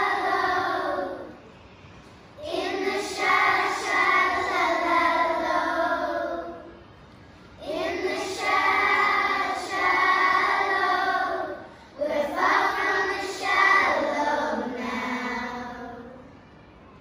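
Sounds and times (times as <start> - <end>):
children's choir singing: 0.0 - 1.5, 2.4 - 6.8, 7.6 - 16.4.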